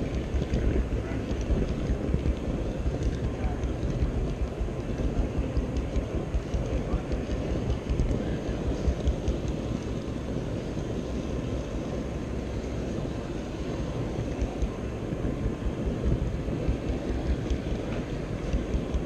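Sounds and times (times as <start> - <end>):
hall background hum: 0.0 - 19.0
model train rumbling on track: 0.0 - 19.0.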